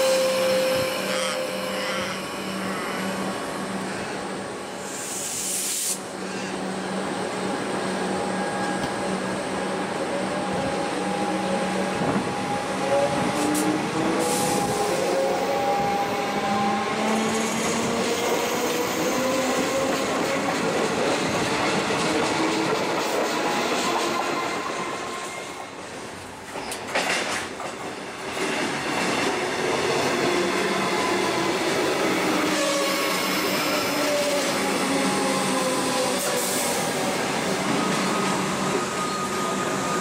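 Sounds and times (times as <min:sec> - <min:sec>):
train wheels rolling on rails: 0:00.0 - 0:40.0.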